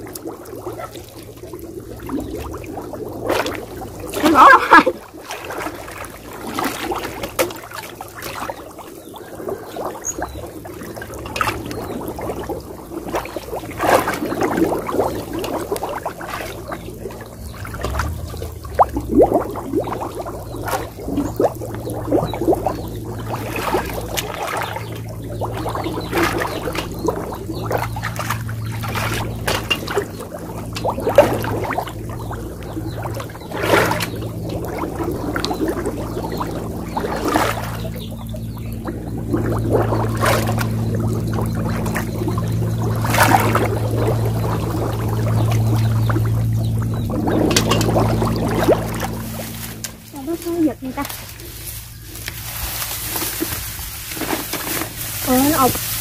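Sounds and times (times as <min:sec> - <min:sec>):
muddy water splashing: 0:00.0 - 0:56.0.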